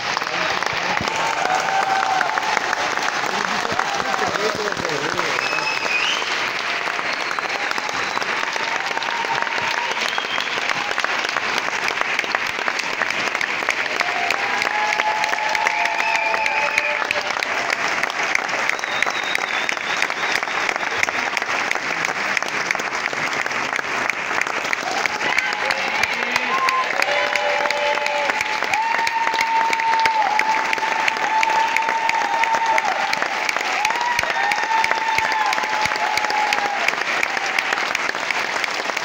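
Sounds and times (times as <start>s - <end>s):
audience applauding: 0.0s - 39.0s.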